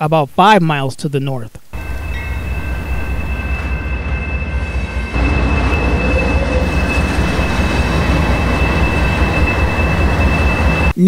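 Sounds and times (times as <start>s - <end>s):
diesel locomotive engine running: 1.8s - 11.0s
rail and wheel noise: 1.8s - 11.0s
thin high squeal: 1.8s - 11.0s.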